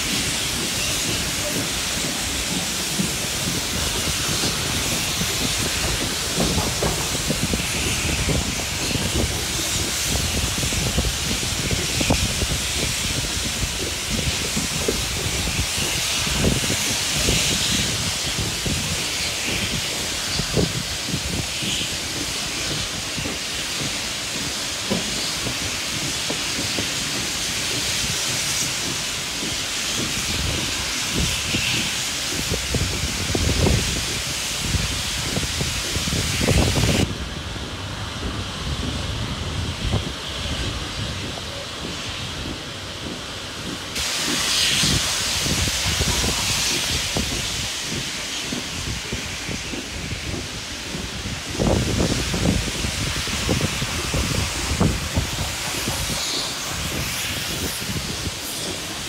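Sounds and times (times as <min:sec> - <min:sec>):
carriages rumbling on rails: 0:00.0 - 0:59.0
steam hissing: 0:00.0 - 0:59.0.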